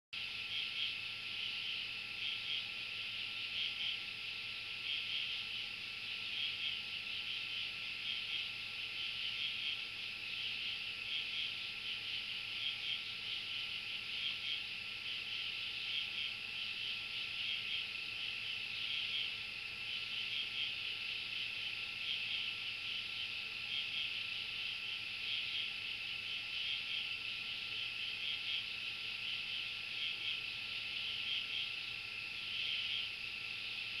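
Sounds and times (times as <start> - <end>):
insects or frogs calling: 0.2 - 34.0.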